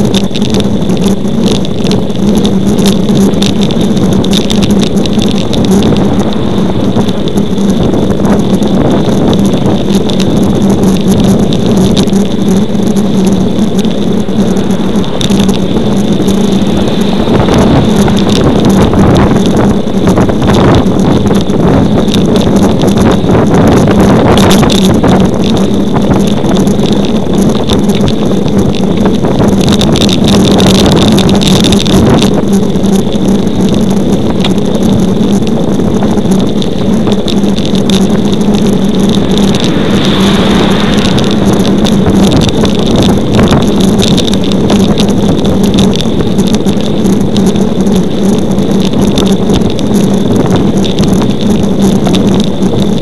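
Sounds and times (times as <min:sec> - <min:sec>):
low hum: 0:00.0 - 0:53.0
wind and road noise: 0:00.0 - 0:53.0.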